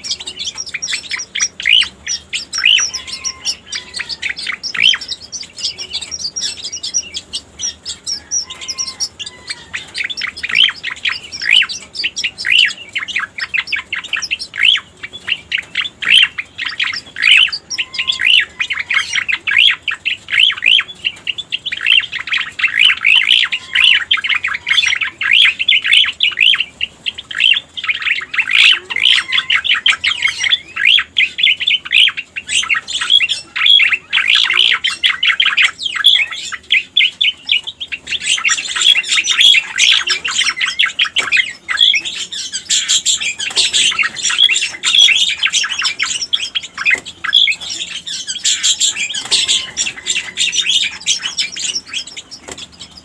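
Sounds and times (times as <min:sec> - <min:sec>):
bird chattering song: 0:00.0 - 0:53.0.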